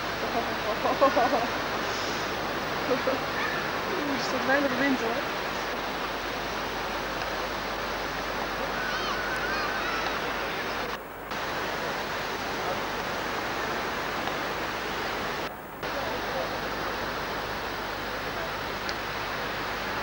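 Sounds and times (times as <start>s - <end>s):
surf: 0.0s - 20.0s
wind: 0.0s - 20.0s.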